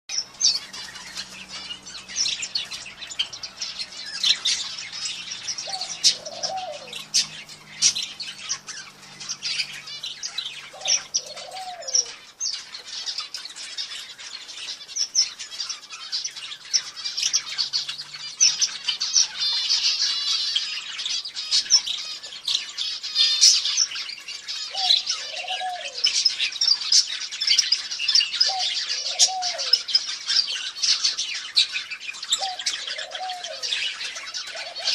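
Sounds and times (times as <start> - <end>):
small birds chirping: 0.0 - 34.9
drawn-out bird call: 0.1 - 34.9.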